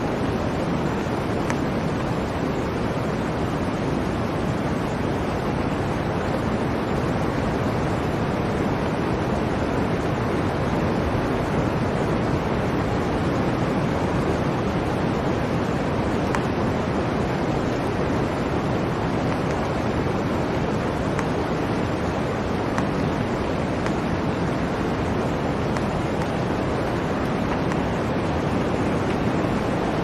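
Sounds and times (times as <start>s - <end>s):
blizzard wind blowing: 0.0s - 30.0s.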